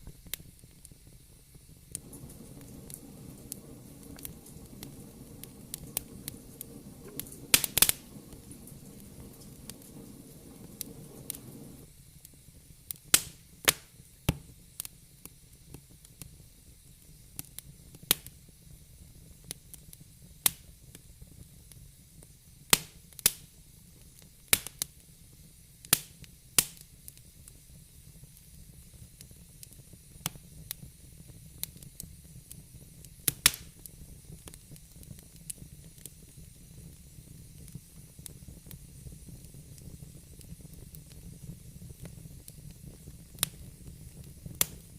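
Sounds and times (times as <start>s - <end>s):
fireplace fire crackling: 0.0s - 44.9s.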